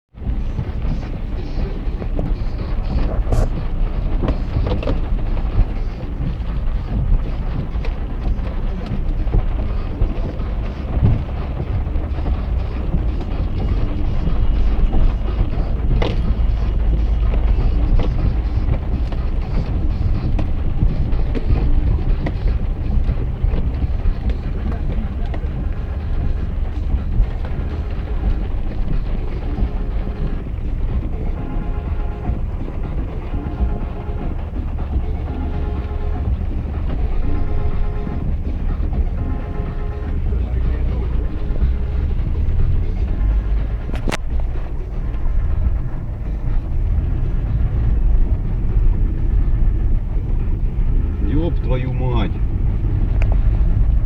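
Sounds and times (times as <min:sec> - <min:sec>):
vehicle rumbling in motion: 0:00.0 - 0:54.0.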